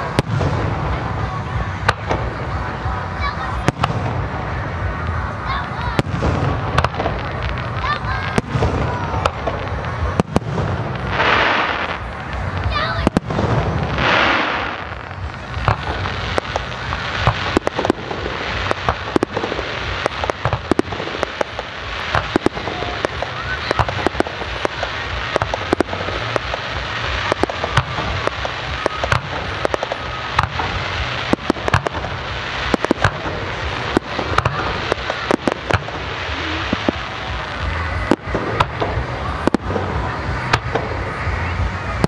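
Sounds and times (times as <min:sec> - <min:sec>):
background hiss: 0:00.0 - 0:42.0
fireworks bangs and crackling: 0:00.0 - 0:42.0.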